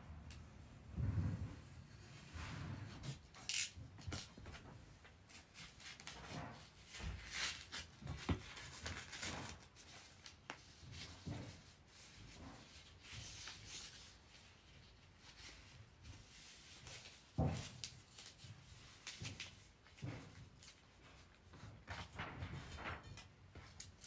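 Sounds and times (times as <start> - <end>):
paper rustling and crinkling: 3.0 - 24.0.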